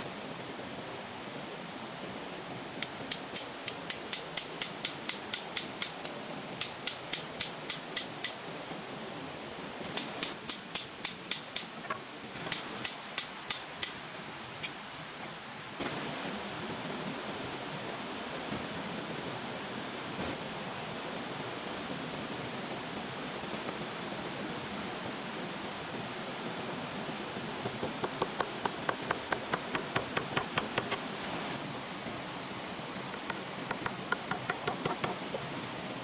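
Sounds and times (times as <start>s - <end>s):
steady rushing hiss: 0.0s - 36.0s.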